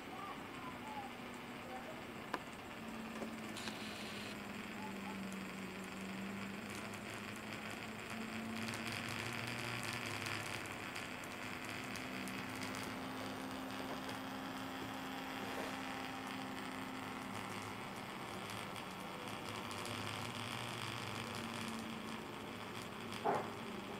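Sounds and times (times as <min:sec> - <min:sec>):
high hiss: 0:00.0 - 0:23.9
stepper motors humming: 0:00.0 - 0:23.9.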